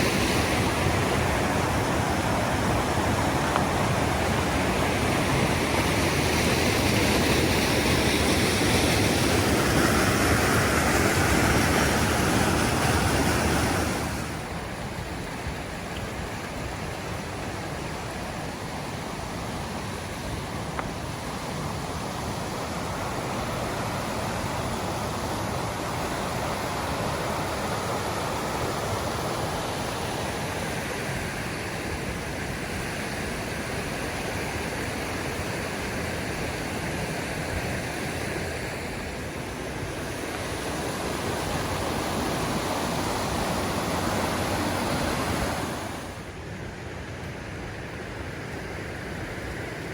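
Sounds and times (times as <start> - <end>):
creek water rushing: 0.0 - 49.9.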